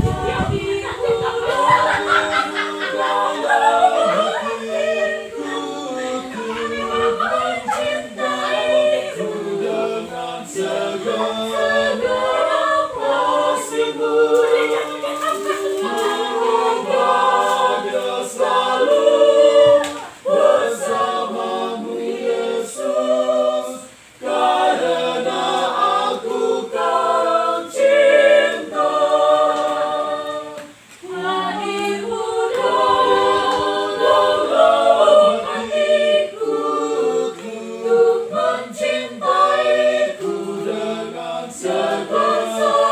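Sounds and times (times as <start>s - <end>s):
choir singing unaccompanied: 0.0s - 42.9s.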